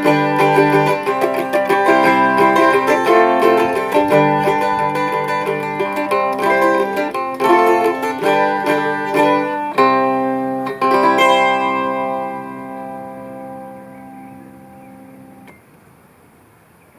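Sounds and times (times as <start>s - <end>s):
mandola picking and strumming: 0.0s - 15.6s.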